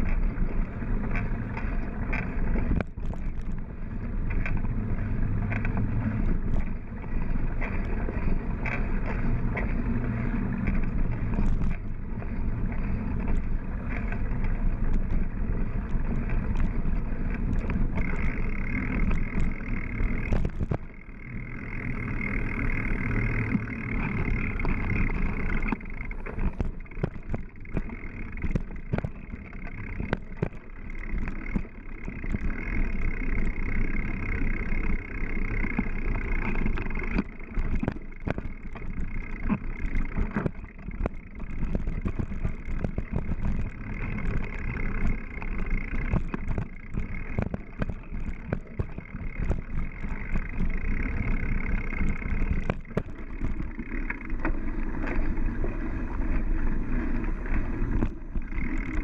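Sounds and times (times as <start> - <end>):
bike rattling over bumps: 0.0 - 59.0
bike tyres rumbling on dirt: 0.0 - 59.0.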